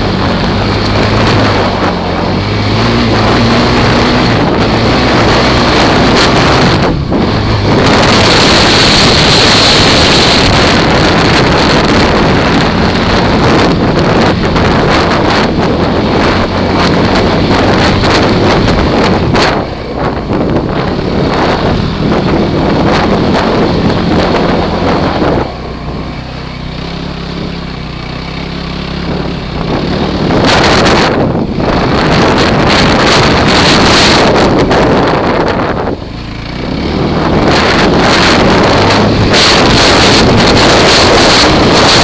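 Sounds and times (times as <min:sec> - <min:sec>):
quad engine running: 0:00.0 - 0:42.0
wind buffeting microphone: 0:00.0 - 0:42.0.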